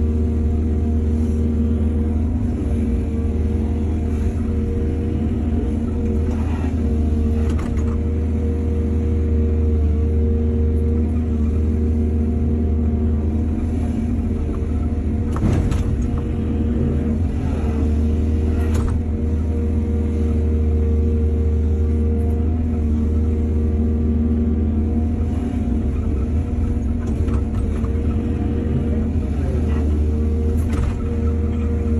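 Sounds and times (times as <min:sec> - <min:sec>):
diesel engine running under load: 0:00.0 - 0:31.9.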